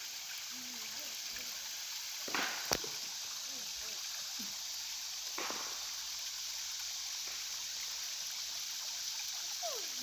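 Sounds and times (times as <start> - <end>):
small waterfall hissing: 0.0 - 10.0.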